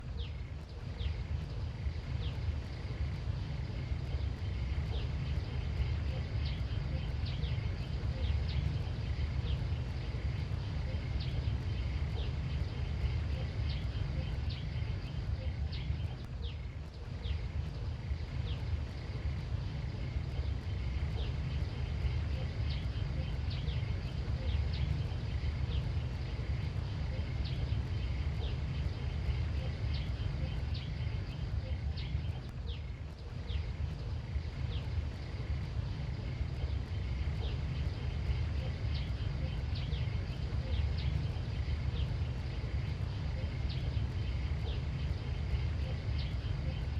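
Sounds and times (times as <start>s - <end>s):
small birds chirping: 0.0s - 46.9s
steady low rumble: 0.0s - 46.9s.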